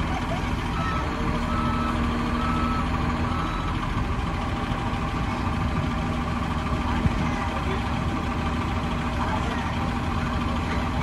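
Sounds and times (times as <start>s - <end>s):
diesel machinery engine running: 0.0s - 11.0s.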